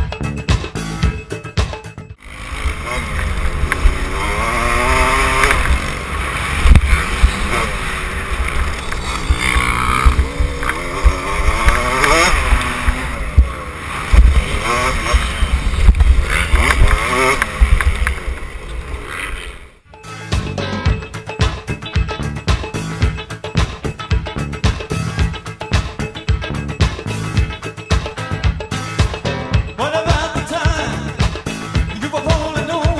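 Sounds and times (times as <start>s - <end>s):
dirt bike engine revving: 2.2s - 32.0s.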